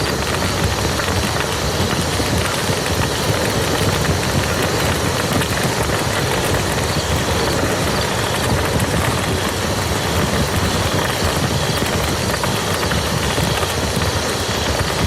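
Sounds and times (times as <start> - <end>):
rain on muddy ground: 0.0 - 15.0.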